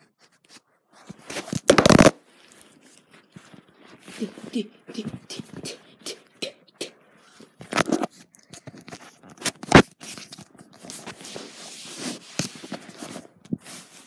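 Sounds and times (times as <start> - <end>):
fabric rustling against phone: 0.2 - 5.6, 7.2 - 14.0.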